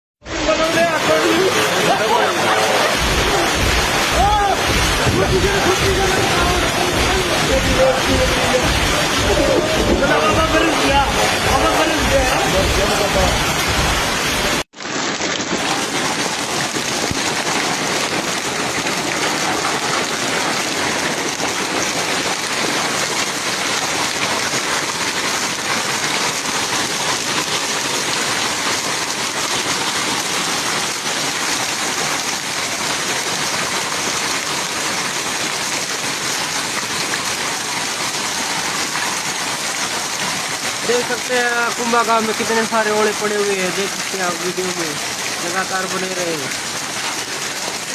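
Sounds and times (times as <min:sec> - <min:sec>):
heavy rain pouring: 0:00.2 - 0:47.9.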